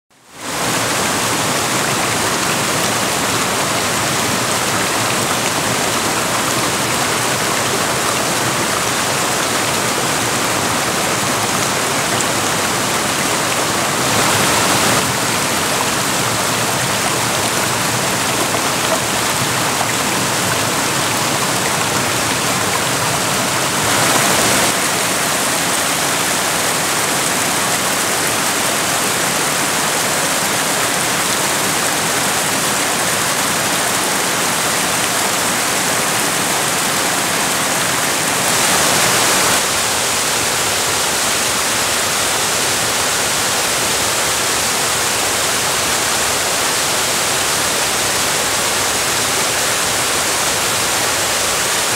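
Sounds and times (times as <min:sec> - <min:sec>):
creek water rushing over boulders: 0:00.2 - 0:51.9.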